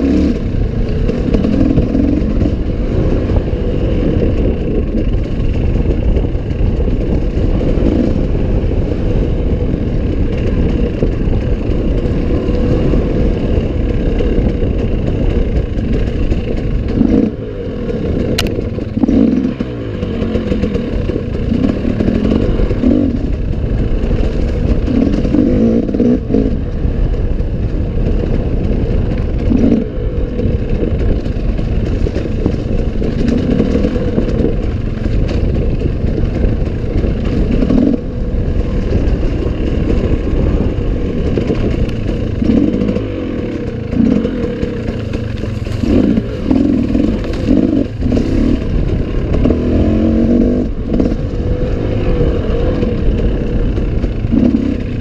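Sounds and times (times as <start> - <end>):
bike rattling over rough ground: 0.0 - 55.0
dirt bike engine revving: 0.0 - 55.0.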